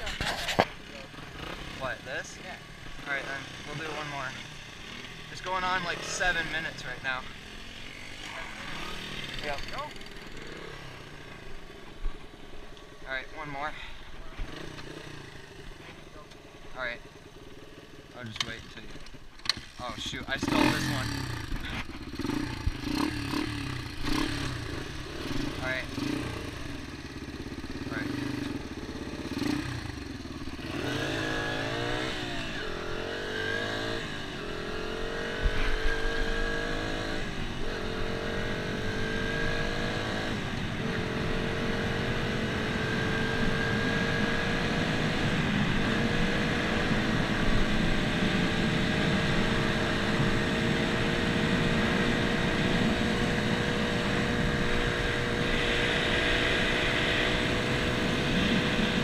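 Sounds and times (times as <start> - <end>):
dirt bike engine accelerating: 0.0 - 59.0.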